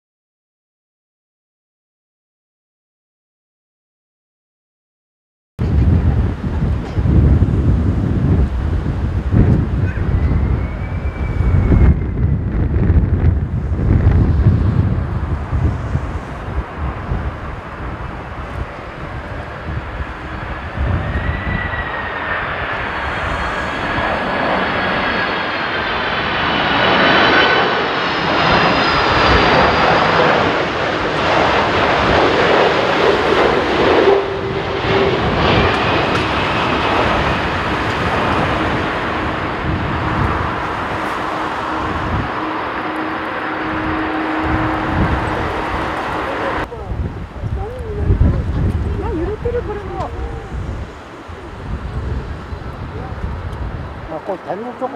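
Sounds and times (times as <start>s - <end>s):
jet engines rumbling and whining: 5.6s - 54.9s.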